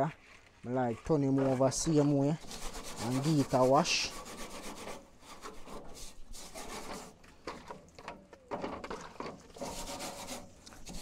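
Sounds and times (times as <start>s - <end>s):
scrubbing metal grill grate: 1.0s - 7.7s, 8.6s - 11.0s.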